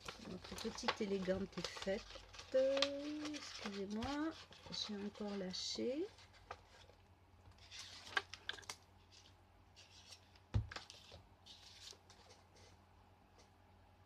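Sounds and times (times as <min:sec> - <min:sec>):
paper rustling: 0:00.0 - 0:12.8.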